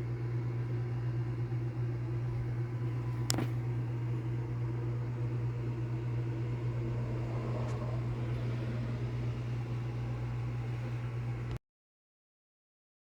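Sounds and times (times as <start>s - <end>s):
low mechanical hum: 0.0s - 11.6s.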